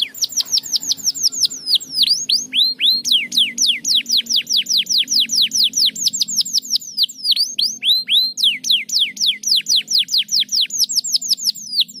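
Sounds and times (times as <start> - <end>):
canary singing trills: 0.0 - 12.0.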